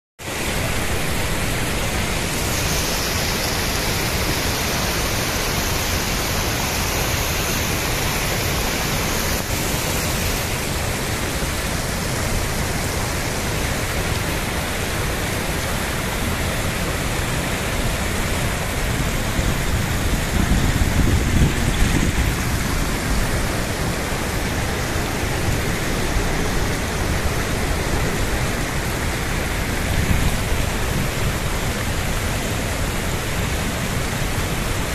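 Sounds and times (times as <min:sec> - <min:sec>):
river rapids: 0:00.2 - 0:34.9
water gushing from pipe: 0:00.4 - 0:34.9.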